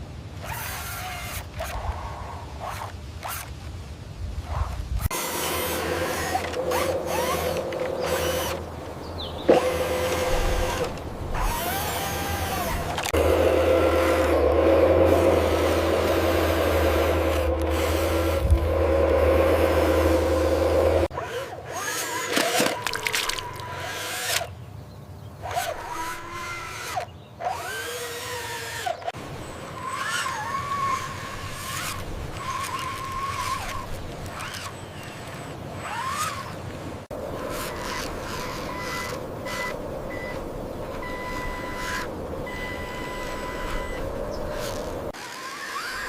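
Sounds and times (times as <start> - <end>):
small electric motor whining: 0.4 - 3.5, 4.4 - 8.7, 9.5 - 24.5, 25.4 - 46.0.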